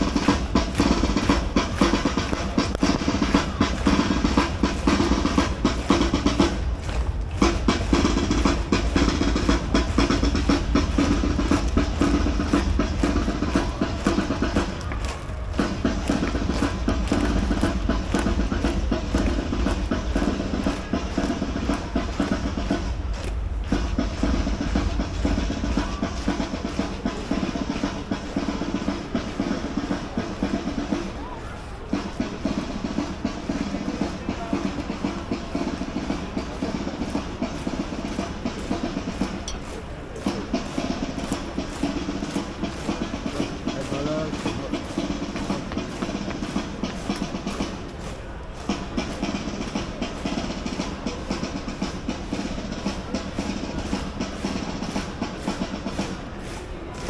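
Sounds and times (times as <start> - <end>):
military band music: 0.0 - 57.0
snare and bass drumming: 0.0 - 57.0.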